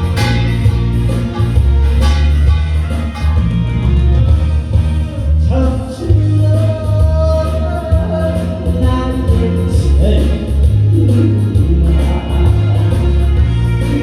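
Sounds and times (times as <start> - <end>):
backing track with heavy bass: 0.0 - 14.0.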